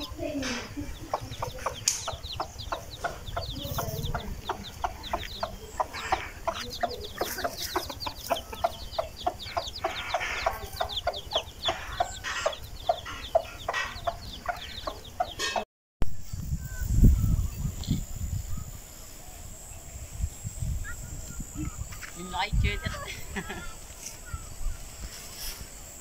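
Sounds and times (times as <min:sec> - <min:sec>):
birds calling: 0:00.0 - 0:15.6, 0:16.2 - 0:26.0.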